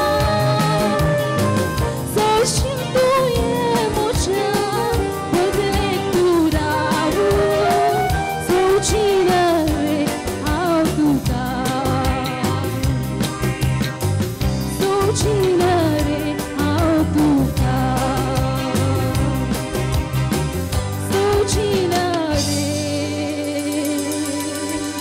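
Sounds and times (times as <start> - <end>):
woman singing pop song: 0.0 - 13.1, 14.6 - 19.9, 21.0 - 25.0
drums: 0.0 - 25.0
electric guitar: 0.0 - 25.0.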